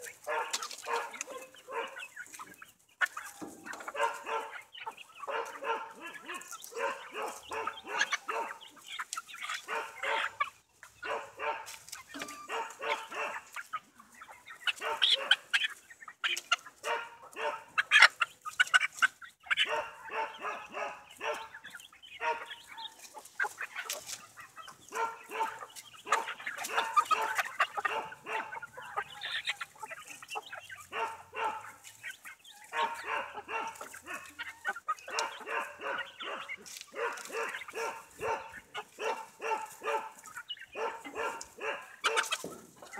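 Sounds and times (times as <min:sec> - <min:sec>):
young chickens clucking: 0:00.0 - 0:42.9.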